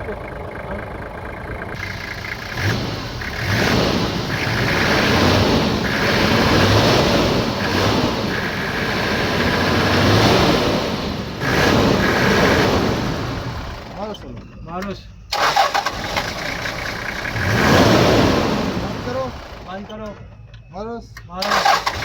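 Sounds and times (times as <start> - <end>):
diesel engine running loudly: 0.0 - 14.2, 15.3 - 20.2.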